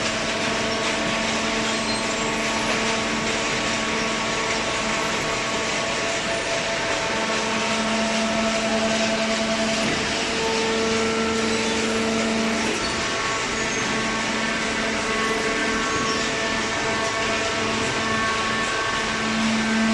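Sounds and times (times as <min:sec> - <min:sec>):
hydraulic baler motor drone: 0:00.0 - 0:19.9.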